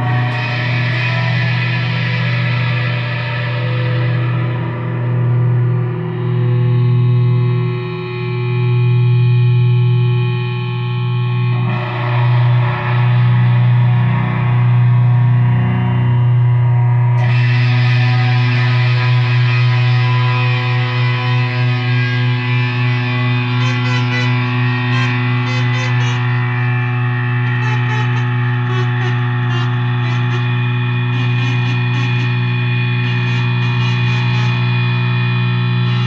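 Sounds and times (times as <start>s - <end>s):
distorted low drone: 0.0s - 36.0s.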